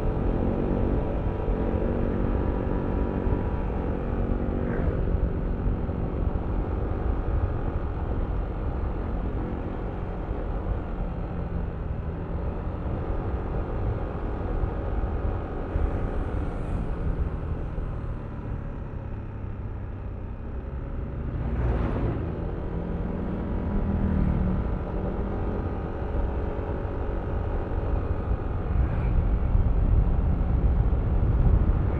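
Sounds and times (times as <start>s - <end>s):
wind rumble on microphone: 0.0s - 31.9s.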